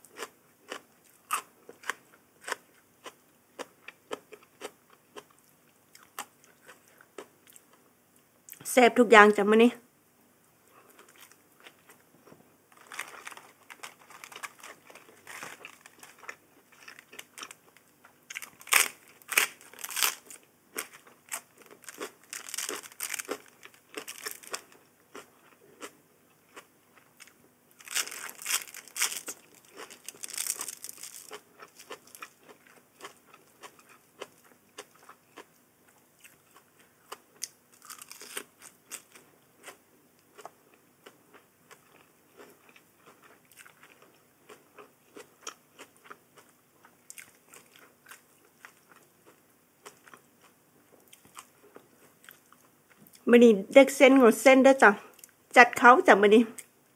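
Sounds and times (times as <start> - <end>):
person chewing crisp food: 0.0 - 7.8, 10.7 - 53.2.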